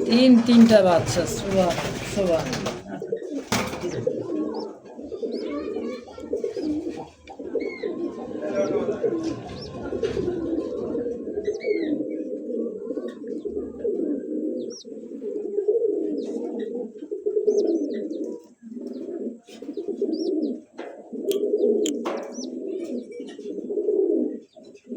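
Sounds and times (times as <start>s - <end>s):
pigeons cooing: 0.0s - 24.9s.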